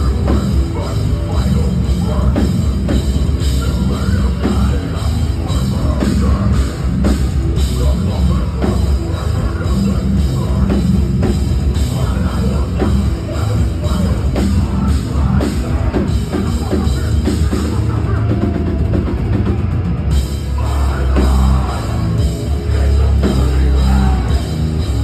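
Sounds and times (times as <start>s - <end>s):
heavy metal band playing live: 0.0s - 25.0s.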